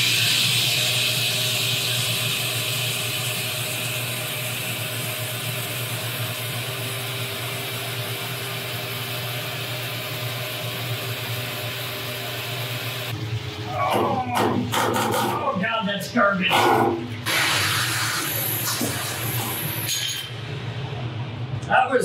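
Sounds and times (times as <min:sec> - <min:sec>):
shop vacuum running: 0:00.0 - 0:22.0.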